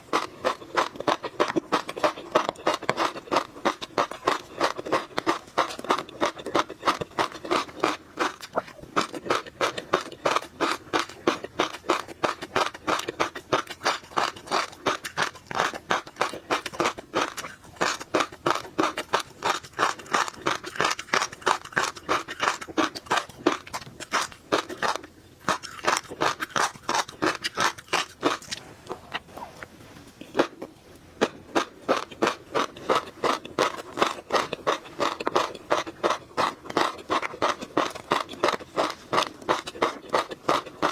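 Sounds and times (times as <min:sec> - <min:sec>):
fish roe popping while chewing: 0:00.0 - 0:29.5, 0:30.2 - 0:40.9.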